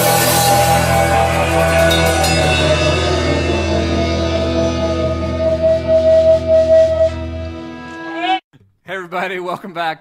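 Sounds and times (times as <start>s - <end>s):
instrumental rock music: 0.0s - 8.2s.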